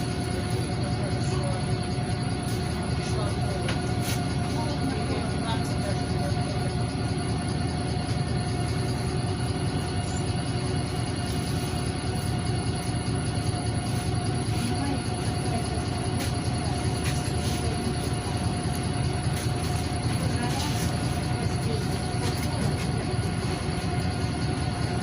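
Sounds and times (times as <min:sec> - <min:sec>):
bus diesel engine rumble: 0:00.0 - 0:25.0
road noise: 0:00.0 - 0:25.0.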